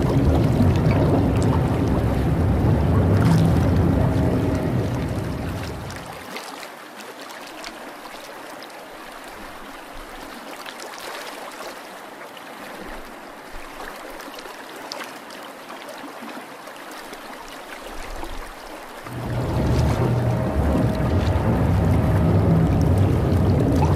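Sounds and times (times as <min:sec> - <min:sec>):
trickling and bubbling water: 0:00.0 - 0:23.9.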